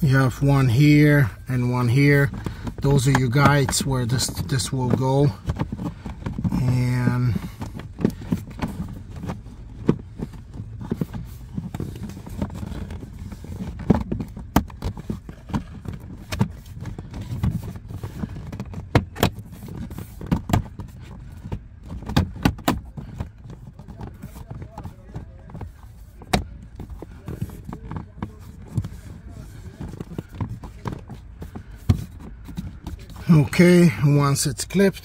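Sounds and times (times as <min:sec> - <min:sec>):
rubbing and handling noise: 0:00.0 - 0:35.0.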